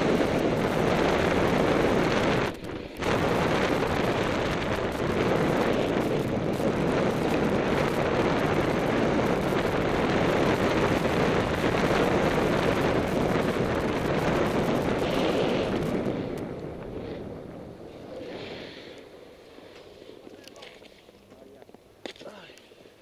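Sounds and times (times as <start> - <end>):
wind noise on camera: 0.0 - 19.1
snowboard scraping over snow: 0.0 - 20.3.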